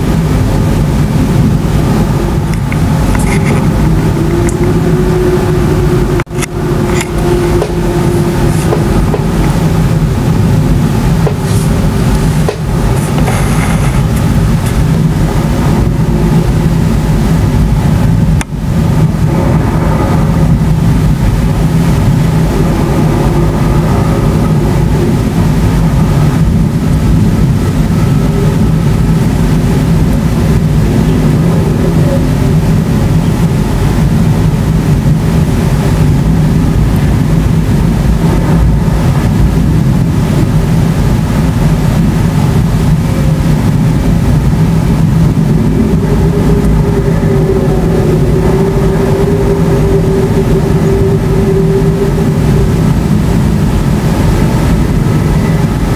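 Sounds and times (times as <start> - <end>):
distant thunder rumbling: 0.0 - 55.9.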